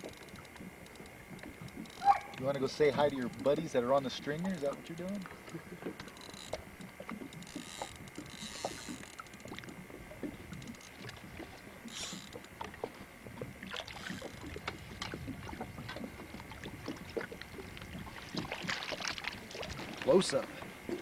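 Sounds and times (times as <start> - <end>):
water lapping against boat: 0.0 - 21.0.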